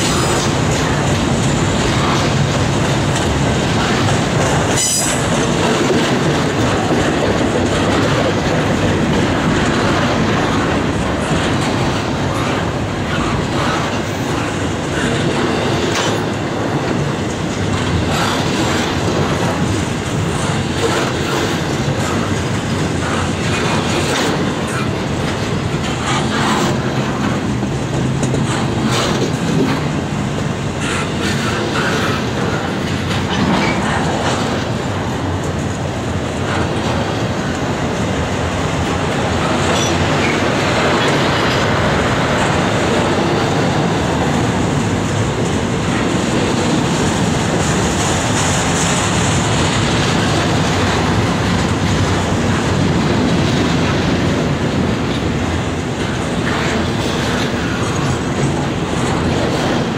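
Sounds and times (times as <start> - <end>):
steel wheels rumbling on rail: 0.0 - 59.9
wheels clacking on rail joints: 0.0 - 59.9.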